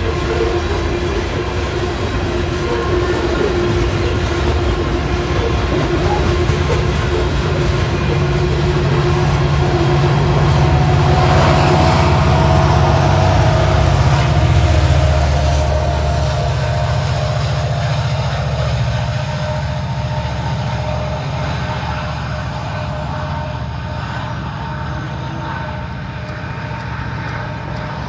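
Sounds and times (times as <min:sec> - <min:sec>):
wheels clattering on rails: 0:00.0 - 0:23.0, 0:25.0 - 0:28.0
diesel locomotive drone: 0:00.0 - 0:28.0.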